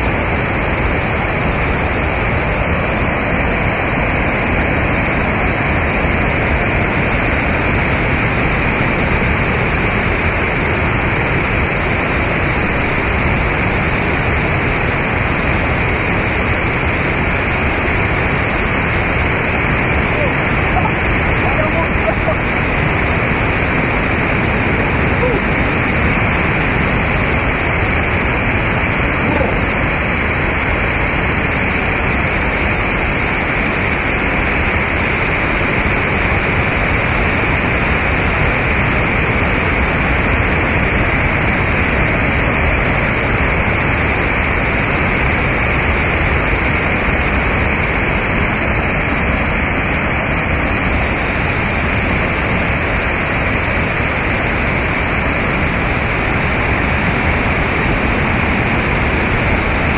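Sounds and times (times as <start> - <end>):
fast-flowing water rushing: 0.0 - 59.9.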